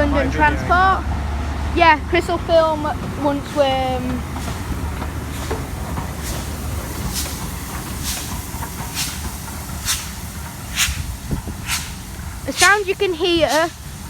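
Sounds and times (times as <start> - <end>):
low locomotive rumble: 0.0 - 14.0
hissing blasts of steam: 2.4 - 14.0.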